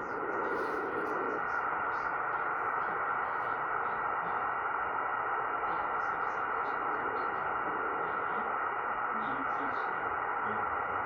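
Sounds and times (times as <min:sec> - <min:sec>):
shortwave radio hiss: 0:00.0 - 0:11.0.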